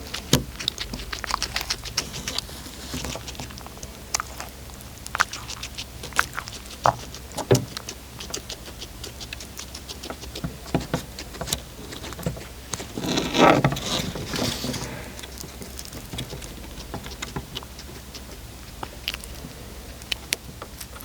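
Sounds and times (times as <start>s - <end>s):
cat chewing food: 0.0s - 21.0s
rustling: 0.0s - 21.0s.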